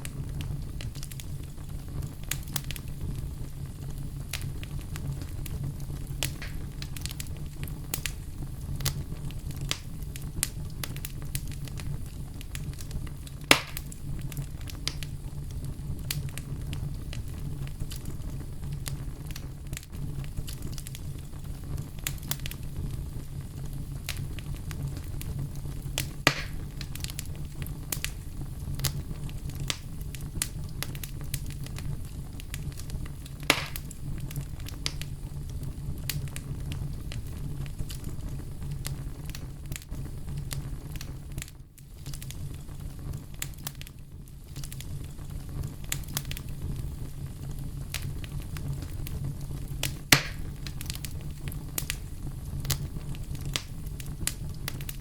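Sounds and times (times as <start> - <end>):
campfire crackling: 0.0 - 55.0
loud fire pops: 0.0 - 55.0.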